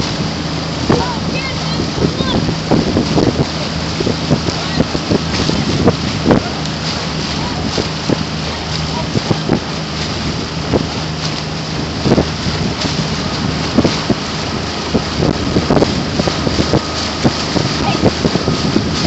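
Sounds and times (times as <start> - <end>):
paddle splashes: 0.0 - 19.0
wind buffeting microphone: 0.0 - 19.0.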